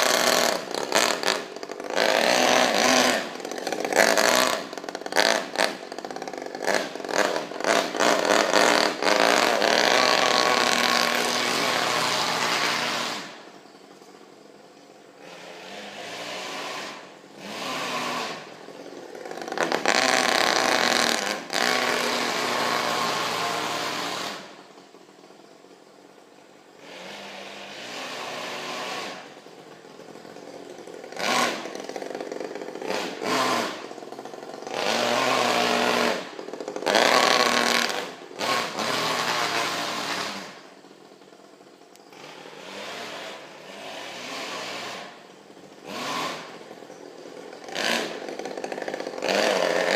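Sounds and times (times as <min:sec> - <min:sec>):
model car engine revving: 0:00.0 - 0:49.9.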